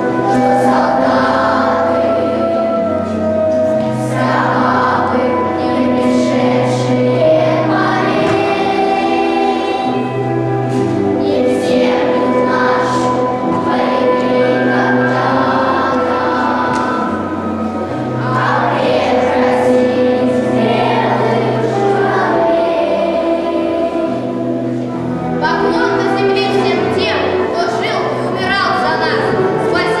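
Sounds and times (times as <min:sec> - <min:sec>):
children's choir singing: 0:00.0 - 0:30.0
instrumental accompaniment: 0:00.0 - 0:30.0.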